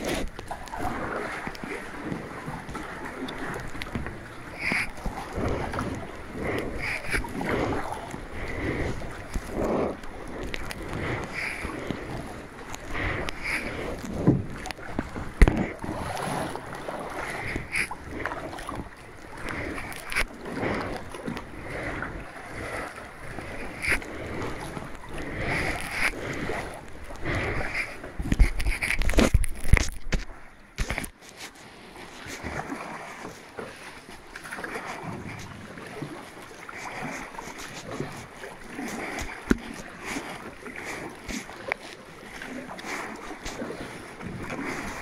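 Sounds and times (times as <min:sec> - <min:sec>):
paddles splashing water: 0:00.0 - 0:45.0
water sloshing around kayak: 0:00.0 - 0:45.0.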